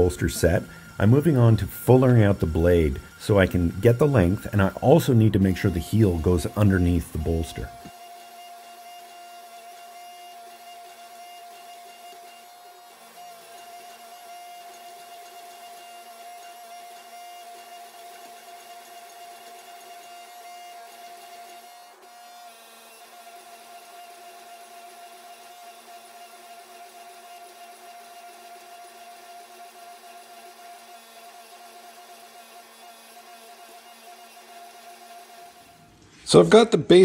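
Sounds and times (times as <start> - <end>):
hydraulic pump and motor humming: 0.0 - 36.5.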